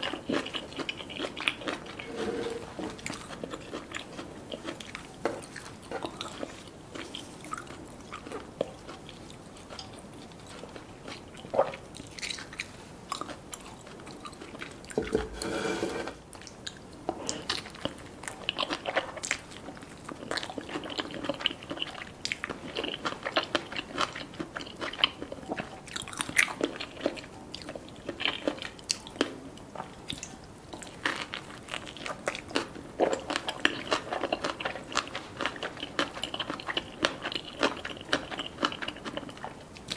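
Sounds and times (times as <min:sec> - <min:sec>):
crunching and chewing: 0:00.0 - 0:15.4, 0:16.1 - 0:39.9.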